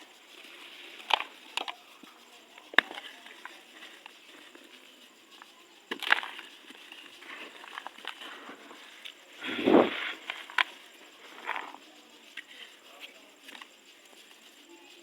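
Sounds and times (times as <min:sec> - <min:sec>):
faint crackling: 0:00.0 - 0:15.0.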